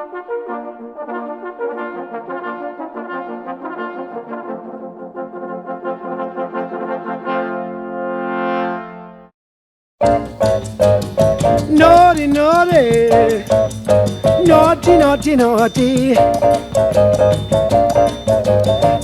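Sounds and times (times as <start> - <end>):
brass music: 0.0 - 9.3, 10.0 - 19.0.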